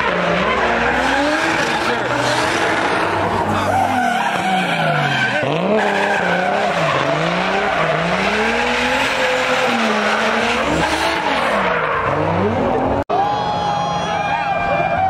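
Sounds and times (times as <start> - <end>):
car engine revving: 0.0 - 13.0
tyres screeching on asphalt: 0.0 - 13.0.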